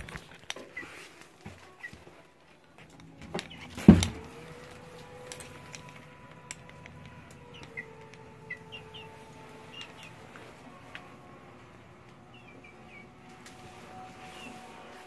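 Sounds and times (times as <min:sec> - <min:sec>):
chicken pecking on tiled floor: 0:00.0 - 0:15.0
chicken chirping: 0:00.1 - 0:15.0
steady low hum: 0:02.8 - 0:15.0.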